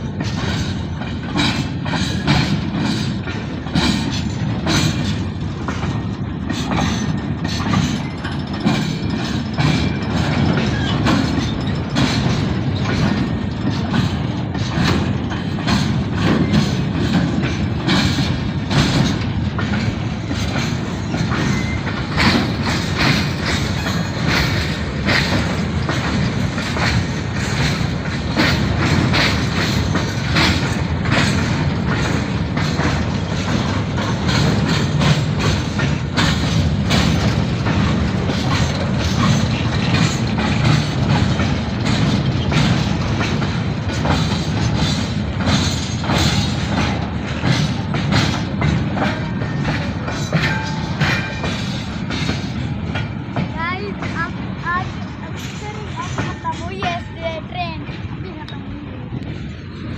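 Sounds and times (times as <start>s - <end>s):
train rumbling past: 0.0s - 59.9s
wheels clicking over rail joints: 0.0s - 59.9s.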